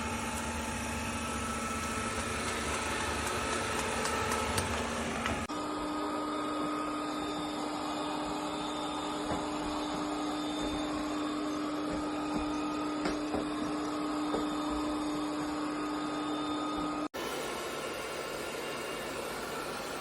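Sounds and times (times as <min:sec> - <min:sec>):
robot vacuum motor humming: 0:00.0 - 0:20.0.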